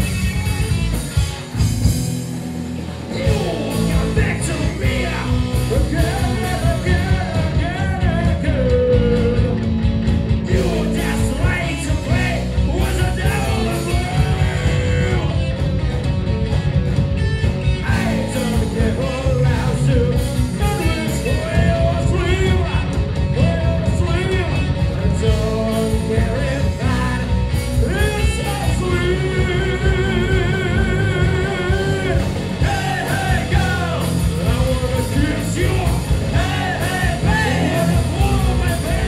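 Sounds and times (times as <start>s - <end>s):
bass guitar: 0.0s - 39.0s
drums: 0.0s - 39.0s
electric guitars: 0.0s - 39.0s
man singing: 3.0s - 9.7s, 10.4s - 15.6s, 17.8s - 39.0s.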